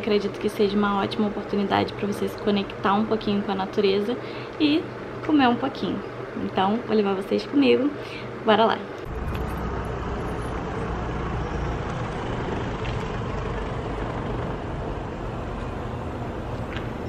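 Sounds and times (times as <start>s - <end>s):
low rumble of road vehicles: 0.0s - 17.0s.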